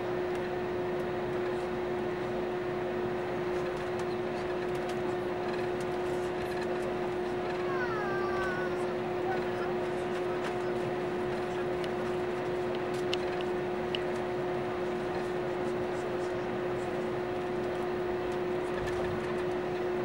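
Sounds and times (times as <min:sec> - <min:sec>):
aircraft cabin drone: 0:00.0 - 0:20.0.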